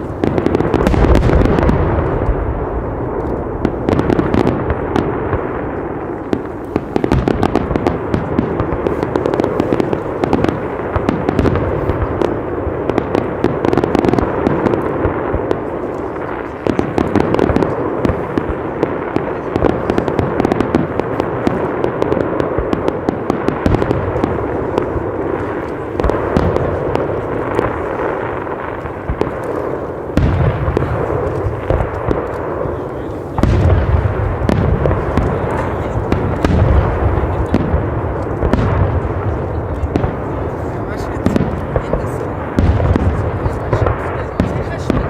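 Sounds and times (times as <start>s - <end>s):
fireworks crackling and banging: 0.0s - 45.0s.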